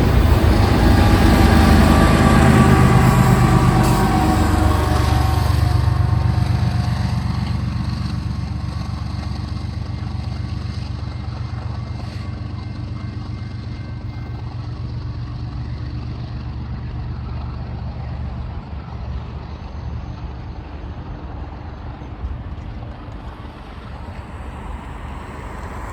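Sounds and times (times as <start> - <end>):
freight train rumbling past: 0.0 - 25.9.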